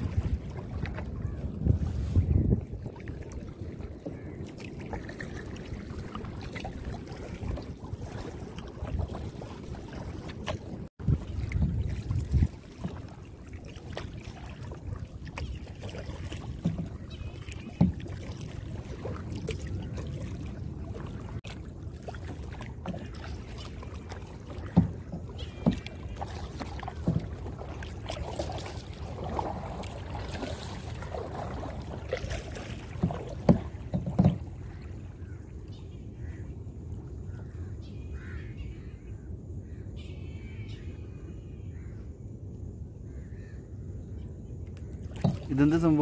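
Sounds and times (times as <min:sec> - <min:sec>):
paddle strokes splashing: 0:00.0 - 0:38.5, 0:45.0 - 0:46.0.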